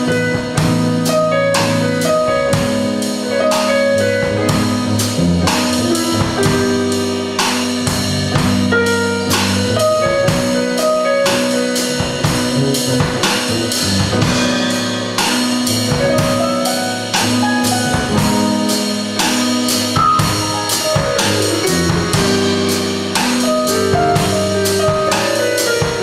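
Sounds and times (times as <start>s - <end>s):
bass lines: 0.0s - 26.0s
drum kit cymbal beat: 0.0s - 26.0s
keyboard chords: 0.0s - 26.0s.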